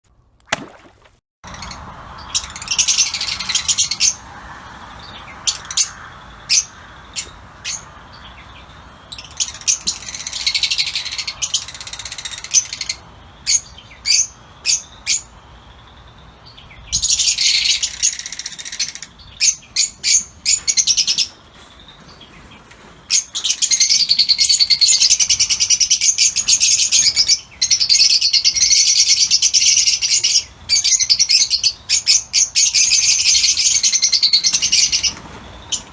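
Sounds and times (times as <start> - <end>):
lovebirds chirping: 0.5 - 35.9.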